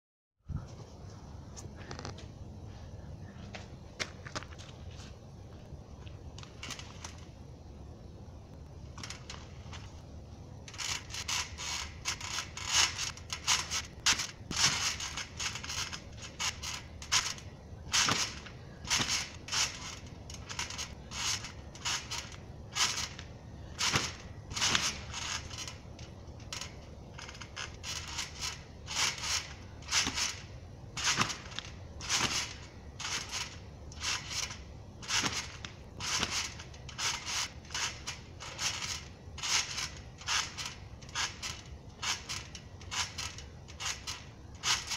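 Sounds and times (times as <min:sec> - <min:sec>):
trampoline springs creaking: 0:04.0 - 0:44.9.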